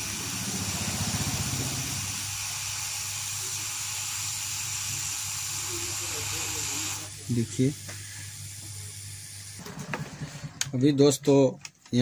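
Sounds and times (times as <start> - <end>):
hot air blower hissing: 0.0 - 10.7.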